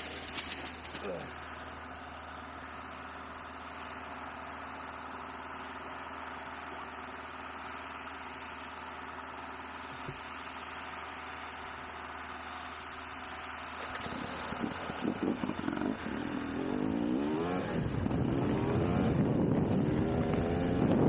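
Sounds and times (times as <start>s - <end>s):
dirt bike engine idling: 0.0s - 21.0s.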